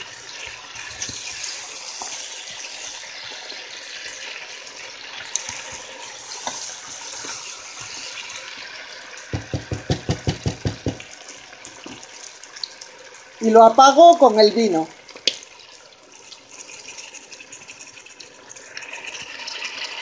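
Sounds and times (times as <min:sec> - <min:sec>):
food sizzling in a pot: 0:00.0 - 0:20.0.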